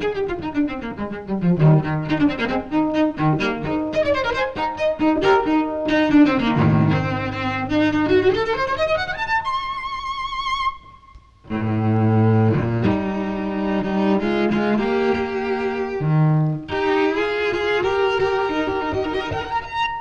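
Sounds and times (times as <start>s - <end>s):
solo cello bowed: 0.0s - 20.0s.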